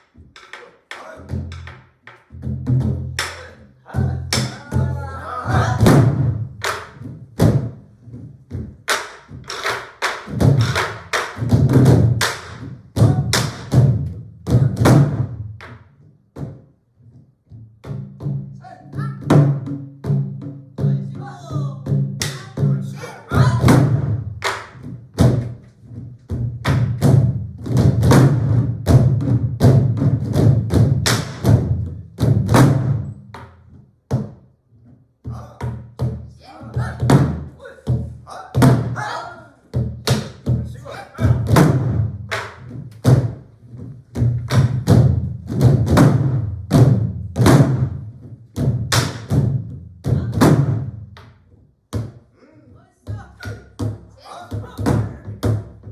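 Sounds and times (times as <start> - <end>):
barrel drums played together: 0.0 - 15.8, 17.5 - 34.4, 35.2 - 51.2, 53.1 - 55.9.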